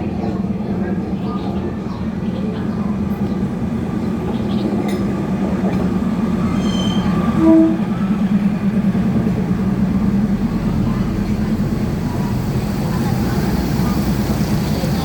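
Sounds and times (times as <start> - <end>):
diesel railcar engine drone: 0.0 - 15.0
wheels rumbling on rails: 0.0 - 15.0.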